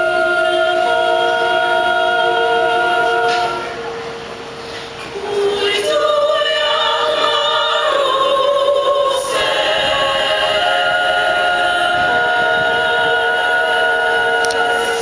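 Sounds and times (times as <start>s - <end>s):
women's choir singing: 0.0s - 4.0s, 5.0s - 15.0s.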